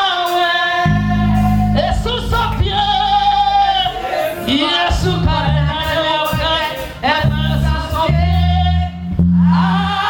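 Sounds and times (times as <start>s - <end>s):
voices singing gospel: 0.0s - 10.0s
bass line: 0.7s - 10.0s.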